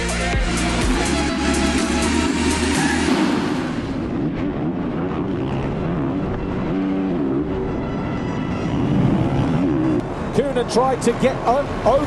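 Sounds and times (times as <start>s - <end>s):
motocross bike engines revving: 2.0s - 12.0s.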